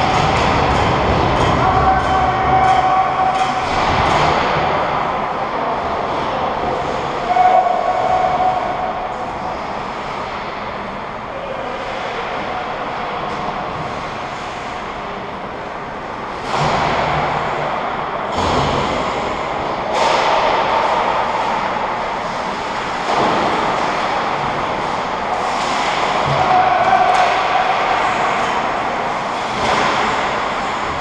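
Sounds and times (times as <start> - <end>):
ice rink rushing noise: 0.0 - 31.0.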